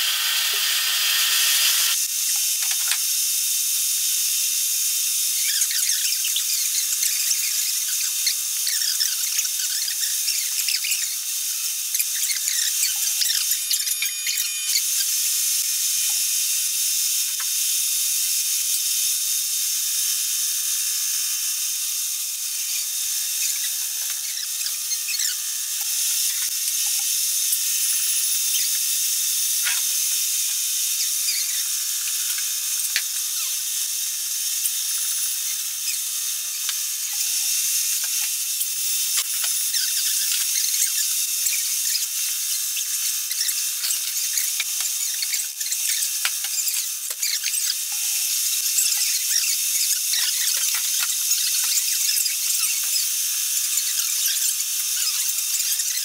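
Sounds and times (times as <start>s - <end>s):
high-pitched milling cutter noise: 0.0s - 56.0s.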